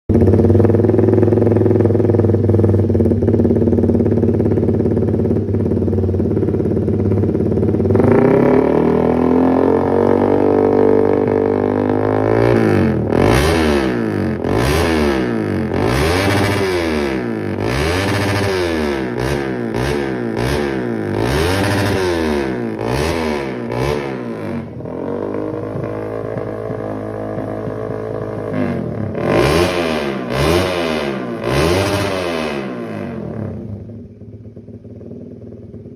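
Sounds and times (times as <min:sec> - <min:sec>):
motorcycle engine idling and revving: 0:00.0 - 0:35.9.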